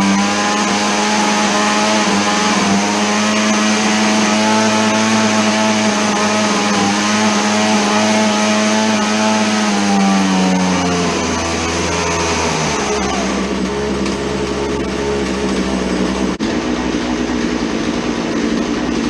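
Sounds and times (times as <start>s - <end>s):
two-stroke chainsaw engine running: 0.0s - 19.0s.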